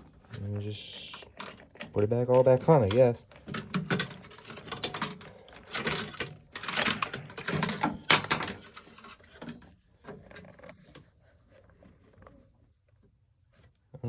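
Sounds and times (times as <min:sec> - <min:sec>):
small plastic parts clicking: 0:00.0 - 0:12.4.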